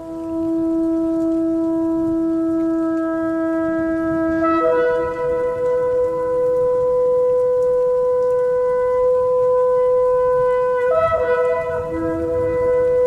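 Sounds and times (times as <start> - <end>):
shofar blast: 0.0 - 13.0.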